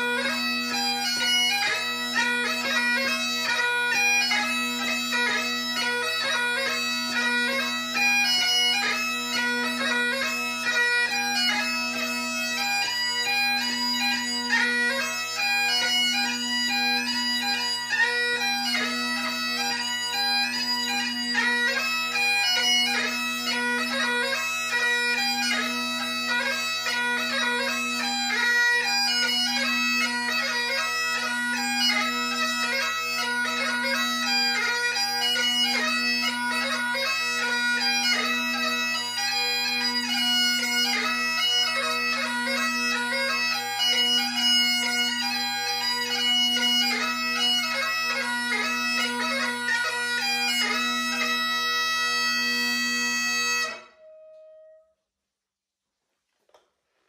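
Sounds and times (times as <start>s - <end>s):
bagpipe playing: 0.0s - 54.9s.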